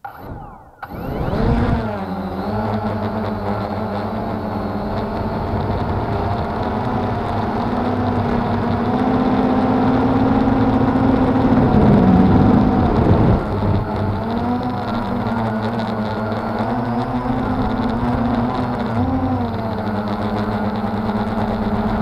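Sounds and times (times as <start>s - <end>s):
quadcopter motors whirring: 0.0s - 22.0s.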